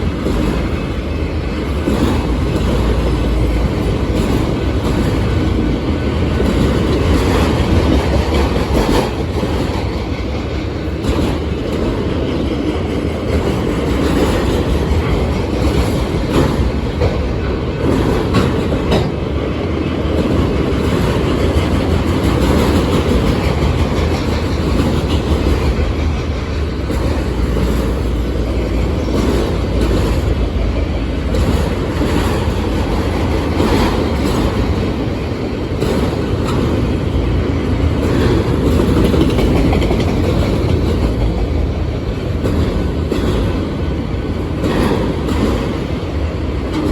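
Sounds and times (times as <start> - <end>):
steel wheels rumbling on rail: 0.0 - 46.9.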